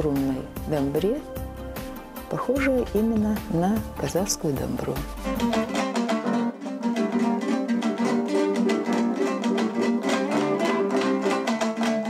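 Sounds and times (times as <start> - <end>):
strummed two-string lute: 0.0 - 12.0.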